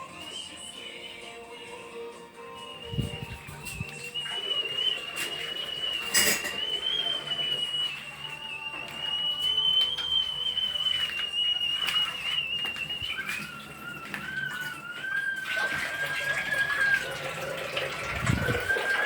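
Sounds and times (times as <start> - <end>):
kettle whistling: 2.4 - 19.0.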